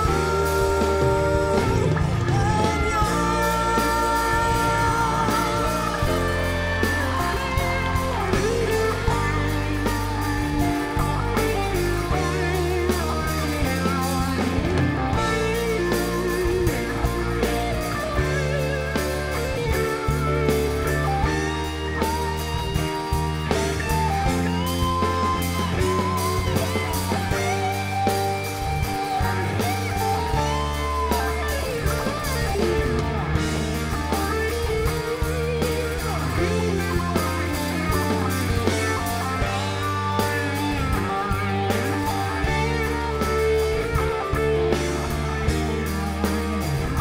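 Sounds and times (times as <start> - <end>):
electric guitar melody: 0.0 - 47.0
live rock band music: 0.0 - 47.0.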